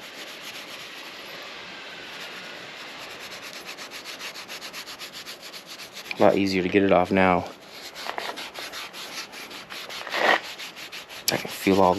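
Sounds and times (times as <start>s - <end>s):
steel wool scrubbing metal: 0.0s - 11.9s.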